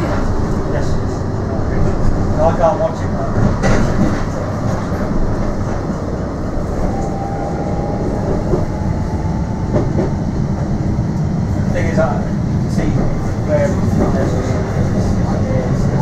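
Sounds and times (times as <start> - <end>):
tram wheels rumbling on rail: 0.0 - 16.0.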